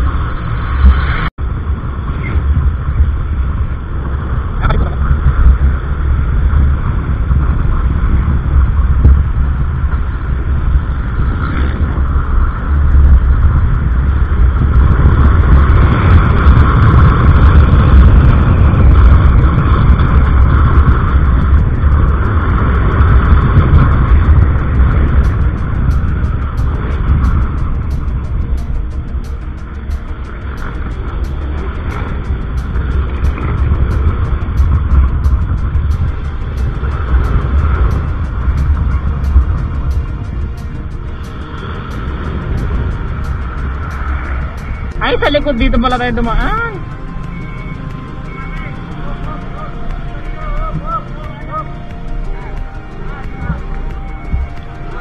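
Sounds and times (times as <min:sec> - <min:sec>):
low rumble: 0:00.0 - 0:55.0
scooter engine and tyre noise: 0:00.0 - 0:55.0
wind buffeting microphone: 0:00.0 - 0:55.0.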